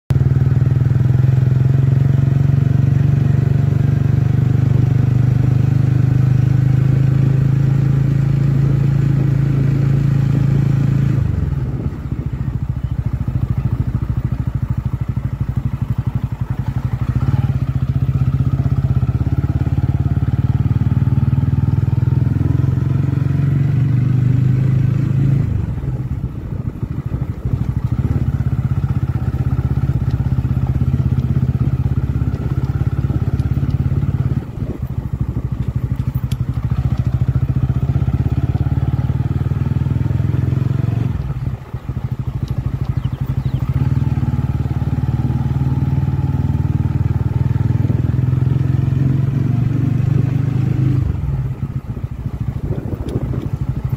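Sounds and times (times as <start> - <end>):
motorcycle engine running: 0.1 - 53.9.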